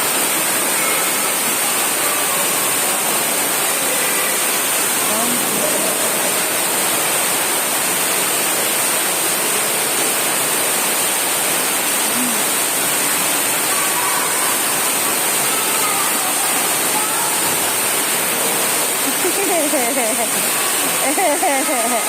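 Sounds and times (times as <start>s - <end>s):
falling water rushing: 0.0s - 22.0s.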